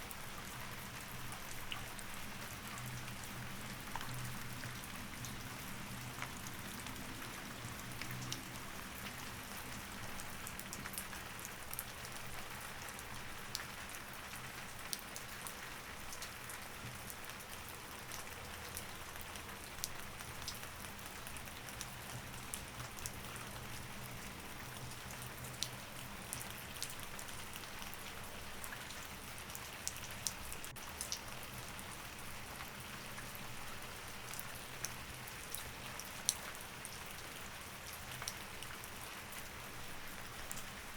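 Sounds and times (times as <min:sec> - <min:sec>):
rain falling: 0:00.0 - 0:40.9
ticks of raindrops: 0:00.1 - 0:40.9.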